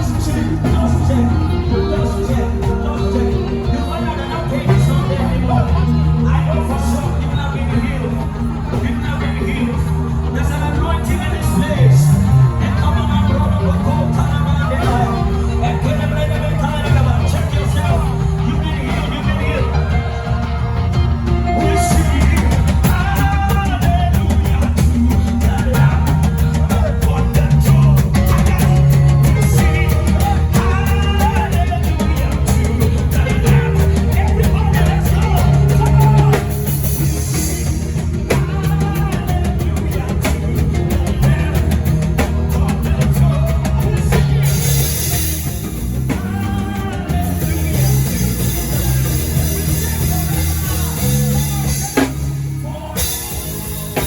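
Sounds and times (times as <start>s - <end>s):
drum kit beat: 0.0s - 54.0s
live band playing: 0.0s - 54.0s
person singing: 0.0s - 54.0s.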